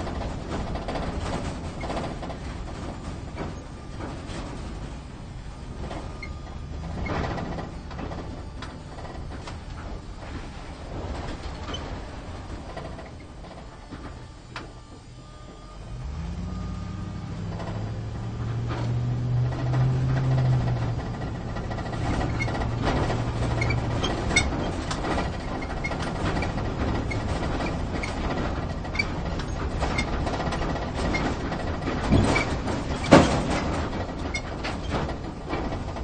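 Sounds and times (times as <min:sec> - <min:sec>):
cabin rattling and jolting: 0:00.0 - 0:15.1, 0:17.1 - 0:36.0
low engine hum: 0:00.0 - 0:36.0.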